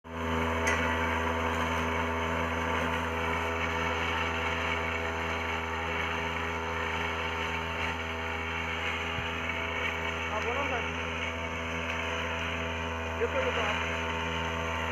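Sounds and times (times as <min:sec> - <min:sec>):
small petrol engine running: 0:00.0 - 0:14.9.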